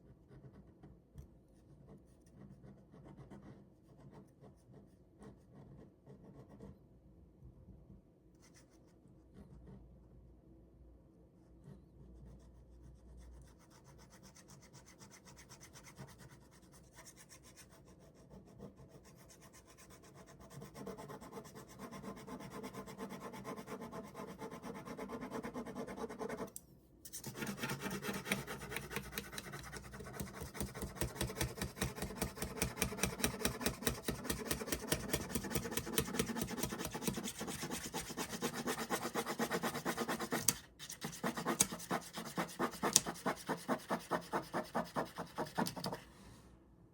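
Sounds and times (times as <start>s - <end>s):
ballpoint pen scratching on paper: 1.6s - 6.8s, 11.6s - 26.5s, 27.1s - 46.0s.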